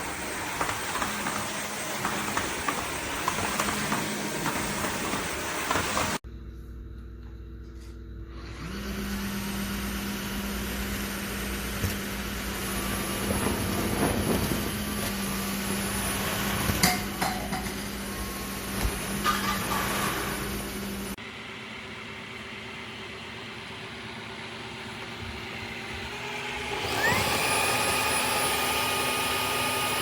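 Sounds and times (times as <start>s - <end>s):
vacuum mop motor whining: 0.0s - 6.2s, 8.3s - 21.2s, 24.8s - 30.0s.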